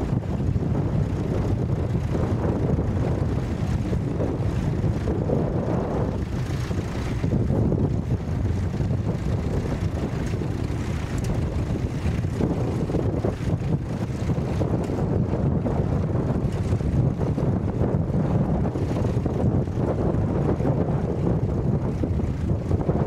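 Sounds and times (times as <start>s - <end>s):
tractor engines running: 0.0s - 23.0s
wind buffeting microphone: 0.0s - 23.0s.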